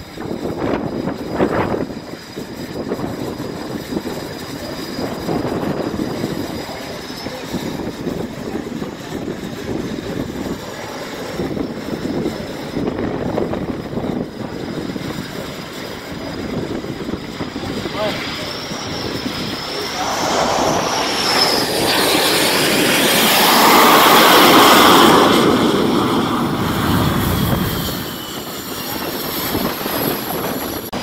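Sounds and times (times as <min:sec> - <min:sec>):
aircraft engines rumbling: 0:00.0 - 0:31.0.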